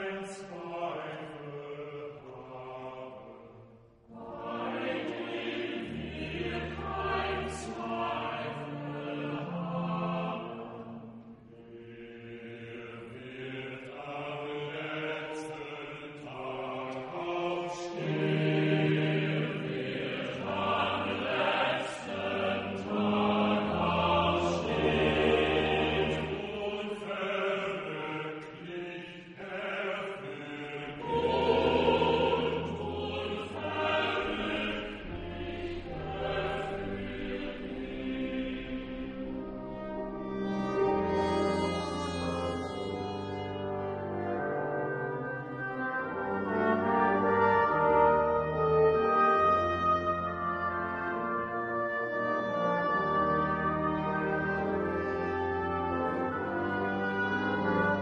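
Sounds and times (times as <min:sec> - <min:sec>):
choir chanting long held notes: 0:00.0 - 0:58.0.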